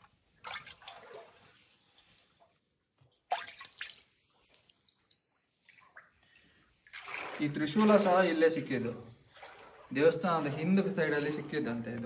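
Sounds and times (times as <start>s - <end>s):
water splashes: 0.3s - 12.0s.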